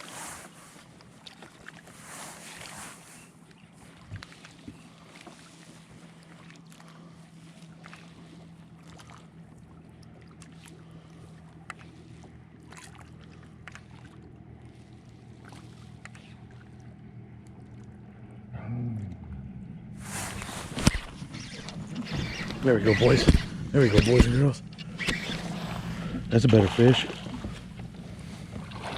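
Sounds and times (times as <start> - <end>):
boat motor humming: 0.0 - 28.9.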